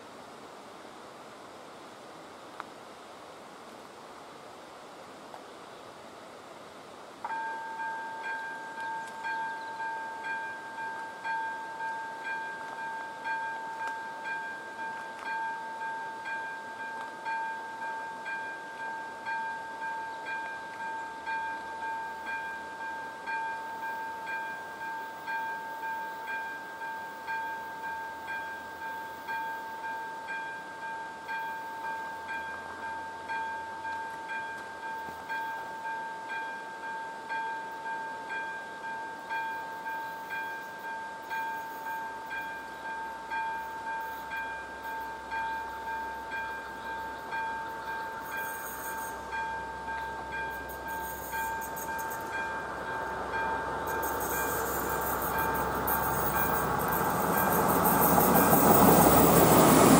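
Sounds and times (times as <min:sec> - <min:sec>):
level crossing warning bell: 0:07.2 - 0:59.9.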